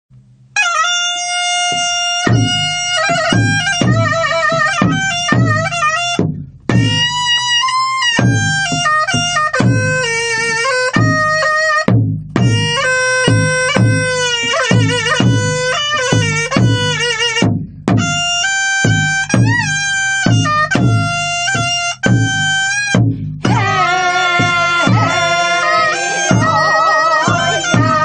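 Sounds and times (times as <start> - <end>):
drum strokes: 0.3 - 28.0
reedy wind instrument melody: 0.5 - 17.4, 18.0 - 28.0.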